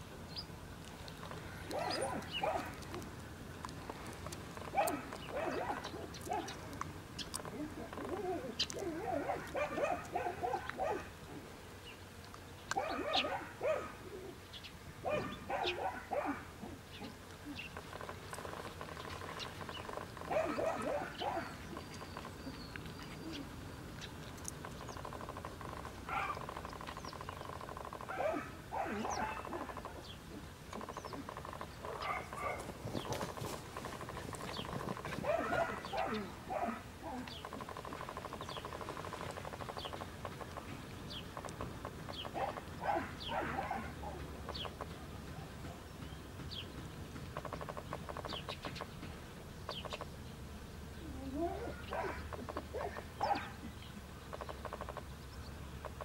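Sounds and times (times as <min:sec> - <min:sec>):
faint steady background noise: 0:00.0 - 0:56.0
animal calls: 0:01.2 - 0:11.5, 0:12.7 - 0:45.9, 0:51.0 - 0:53.7, 0:54.3 - 0:55.2.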